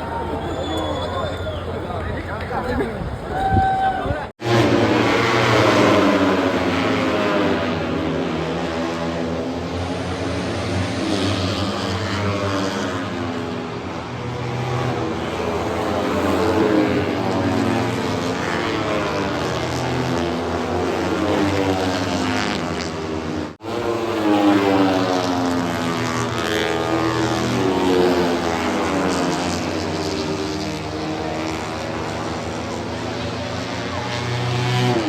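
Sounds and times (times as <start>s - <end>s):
racing motorcycles passing: 4.4s - 35.0s.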